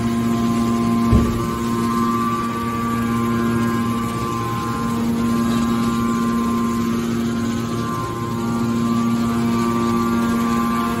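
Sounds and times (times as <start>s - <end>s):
hydraulic power unit humming: 0.0s - 11.0s.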